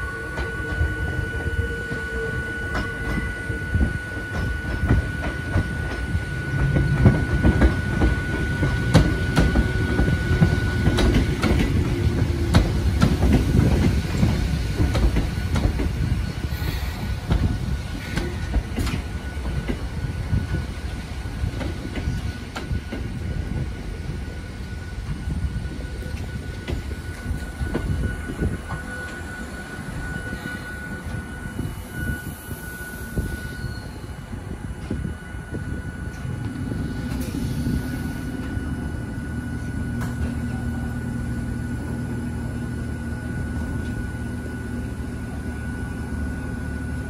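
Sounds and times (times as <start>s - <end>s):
train wheels rumbling and clacking: 0.0s - 47.0s.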